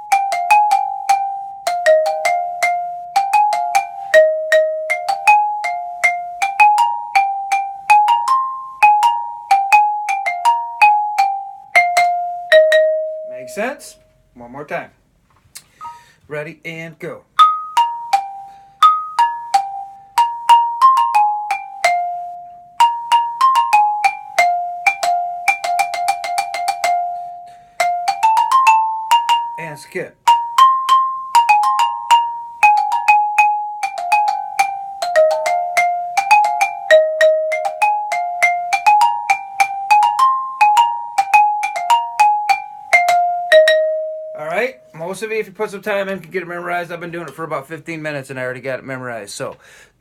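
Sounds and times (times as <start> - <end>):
xylophone melody: 0.0 - 14.2, 15.8 - 16.0, 17.4 - 45.2.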